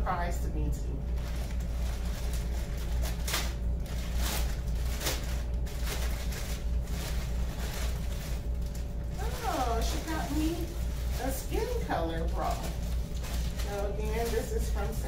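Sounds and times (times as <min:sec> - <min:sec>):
low hum: 0:00.0 - 0:15.0
plastic mailer bag rustling: 0:01.0 - 0:15.0.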